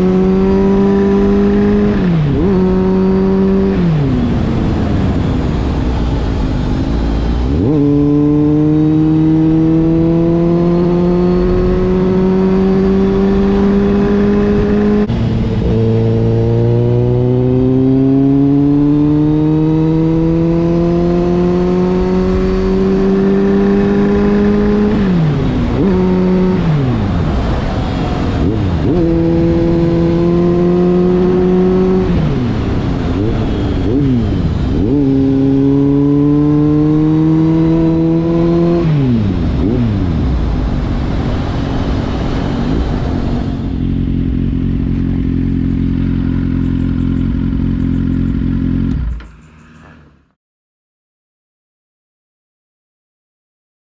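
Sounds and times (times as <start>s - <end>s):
motorcycle engine revving through gears: 0.0s - 50.4s.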